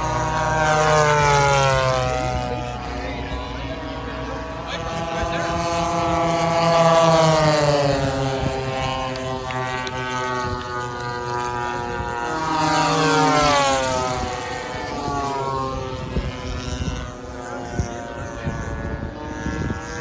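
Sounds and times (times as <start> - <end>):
model plane propeller engines flying by: 0.0 - 20.0.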